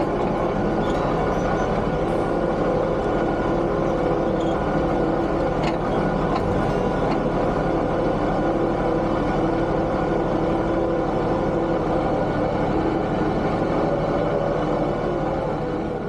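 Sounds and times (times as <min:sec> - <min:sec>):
tractor engine running: 0:00.0 - 0:13.8.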